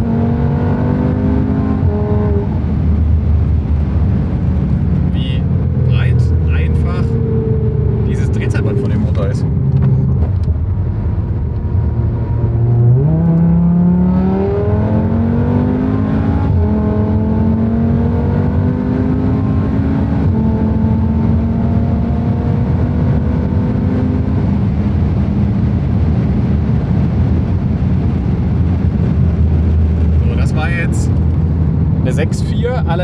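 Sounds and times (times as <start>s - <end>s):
car engine at full throttle: 0.0s - 33.0s
road and wind noise: 0.0s - 33.0s.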